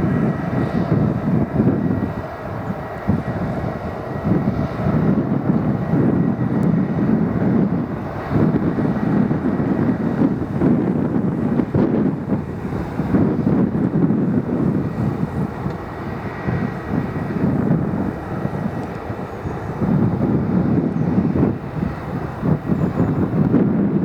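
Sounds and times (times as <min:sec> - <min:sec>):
jet engines rumbling: 0:00.0 - 0:24.0
wind buffeting microphone: 0:00.0 - 0:24.0.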